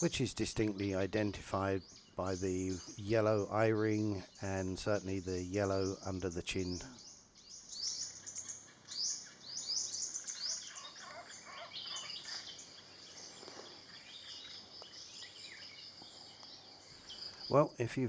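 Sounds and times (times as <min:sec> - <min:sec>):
birds chirping: 0:00.0 - 0:18.0
high insect drone: 0:00.0 - 0:18.0.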